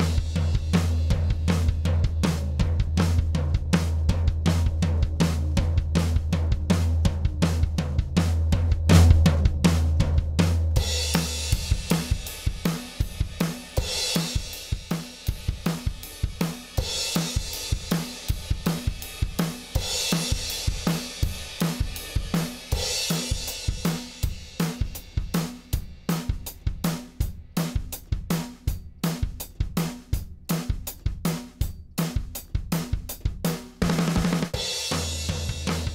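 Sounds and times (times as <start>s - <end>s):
drum kit beat: 0.0s - 35.9s.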